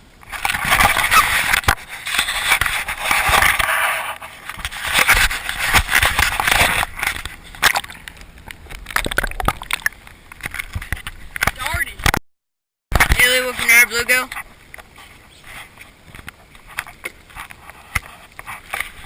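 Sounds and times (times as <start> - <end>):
water splashing and sloshing: 0.0 - 12.2, 12.9 - 19.0.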